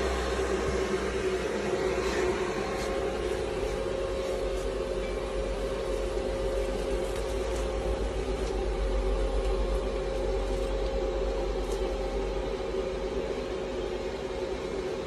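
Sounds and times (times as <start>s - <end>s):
welding arc hum and hiss: 0.0s - 15.0s.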